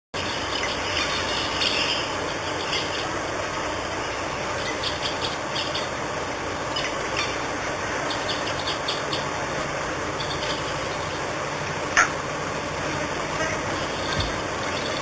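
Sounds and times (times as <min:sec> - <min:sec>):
steady rushing noise: 0:00.2 - 0:15.0.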